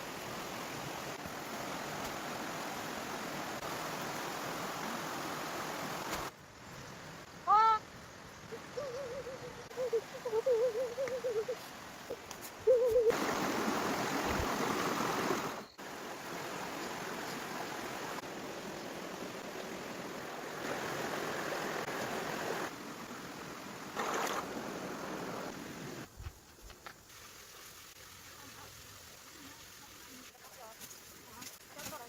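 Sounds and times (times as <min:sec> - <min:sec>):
rushing water: 0:00.0 - 0:06.4, 0:08.5 - 0:26.1, 0:27.0 - 0:32.0.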